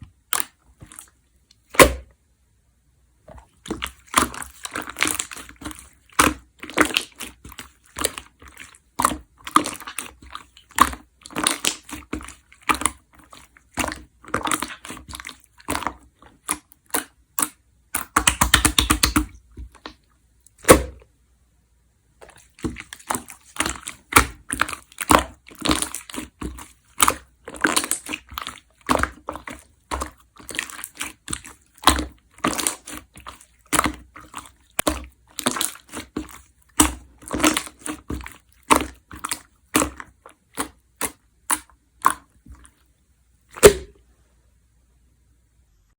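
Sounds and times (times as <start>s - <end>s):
slime squished by hand: 0.0s - 2.1s, 3.3s - 21.0s, 22.2s - 42.8s, 43.5s - 44.0s.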